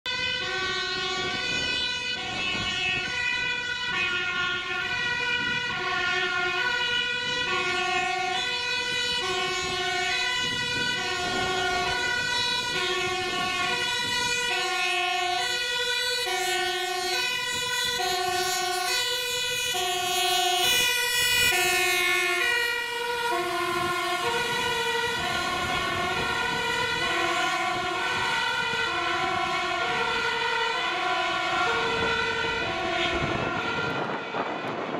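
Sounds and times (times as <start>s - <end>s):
fire engine two-tone siren: 0.0s - 34.9s
engine and tyre noise passing: 0.2s - 34.9s.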